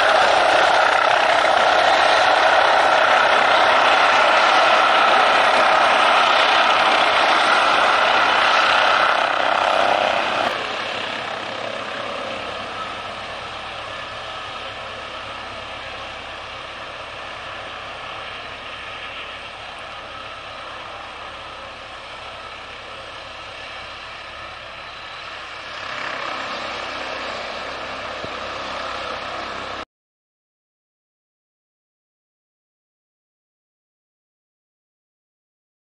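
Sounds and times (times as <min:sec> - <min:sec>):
helicopter engines and rotor: 0:00.0 - 0:29.9.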